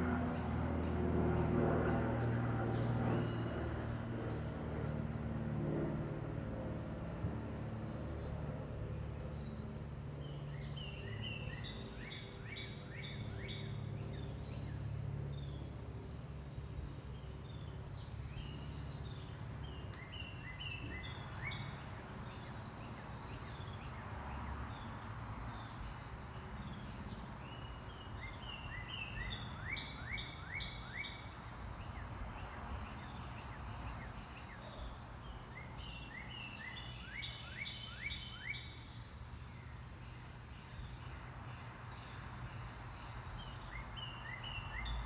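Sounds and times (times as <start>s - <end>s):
birds chirping: 0.0s - 45.0s
low mechanical hum: 0.0s - 45.0s.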